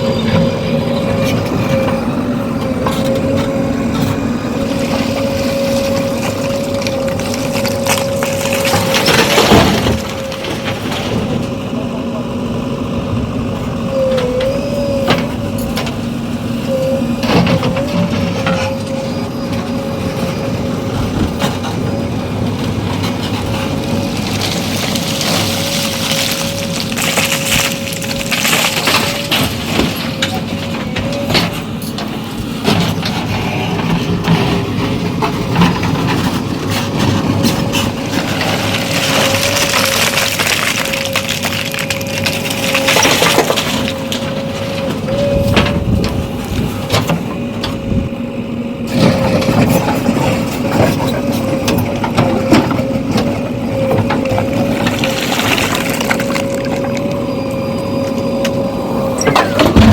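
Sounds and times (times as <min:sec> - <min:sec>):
backhoe engine whining: 0:00.0 - 0:59.9.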